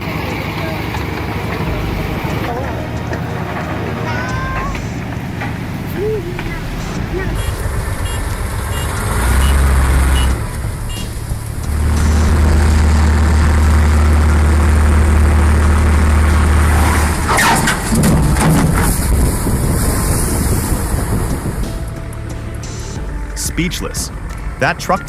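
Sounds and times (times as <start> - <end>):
clattering and knocking: 0.0 - 22.4
truck diesel engine running: 0.0 - 25.0.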